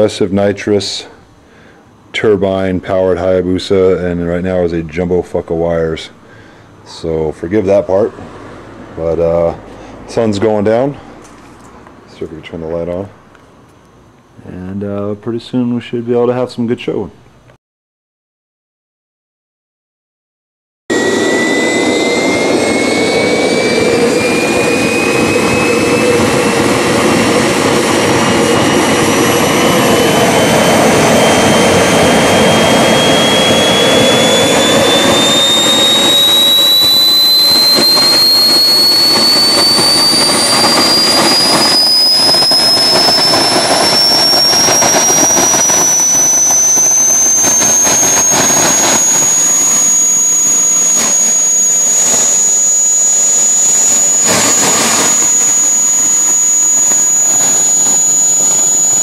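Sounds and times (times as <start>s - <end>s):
jet turbine engine whining: 0.0s - 13.8s, 20.9s - 59.0s.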